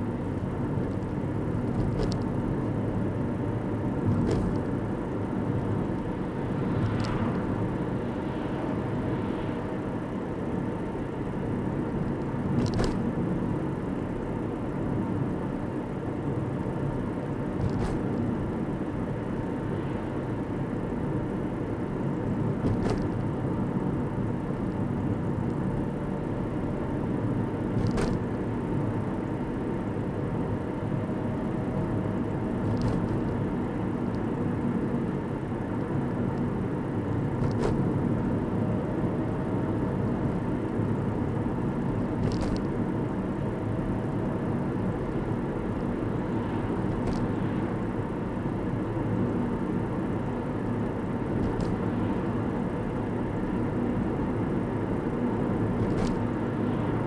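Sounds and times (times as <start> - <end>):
car tyre and engine noise: 0.0 - 57.0.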